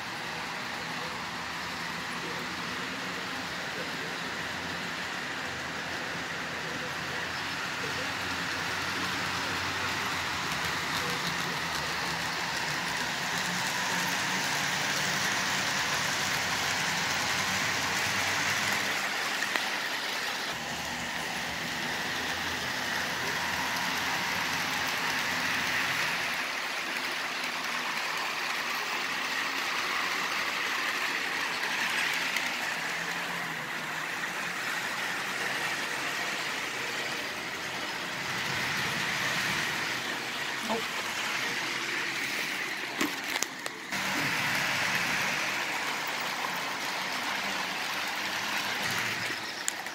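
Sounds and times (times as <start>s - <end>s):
model train motors whirring: 0.0s - 49.9s.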